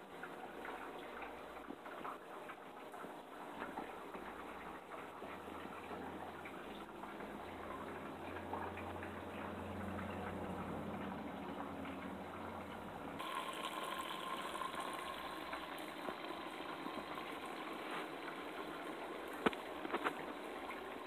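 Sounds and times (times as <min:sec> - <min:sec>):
fountain water running: 0:00.0 - 0:21.0.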